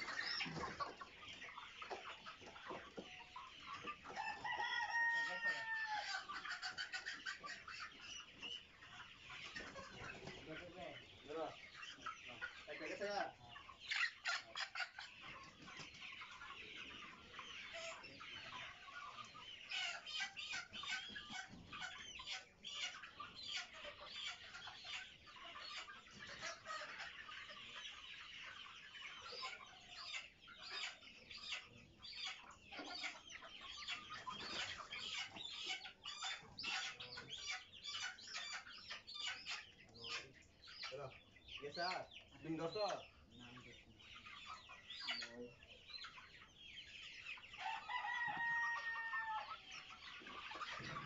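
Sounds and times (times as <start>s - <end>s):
chickens clucking and squawking: 0.0s - 51.0s.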